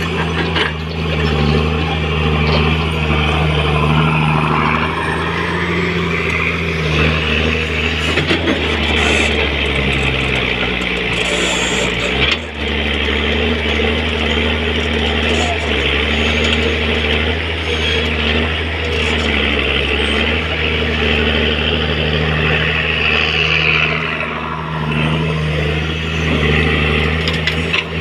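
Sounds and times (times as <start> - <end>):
excavator diesel engine under load: 0.0 - 28.0.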